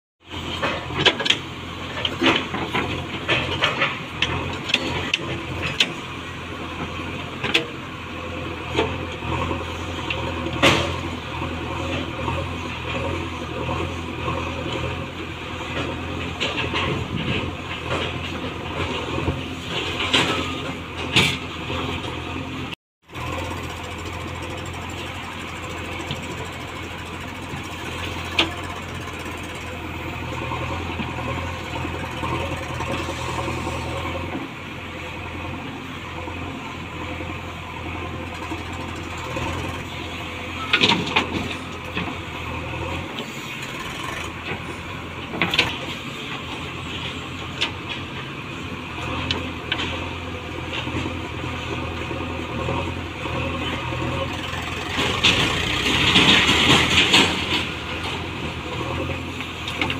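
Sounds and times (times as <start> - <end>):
diesel engine running: 0.2 - 59.9.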